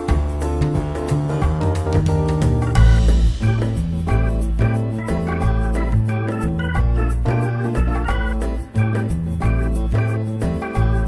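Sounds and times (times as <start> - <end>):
upbeat jazzy organ music: 0.0 - 11.0.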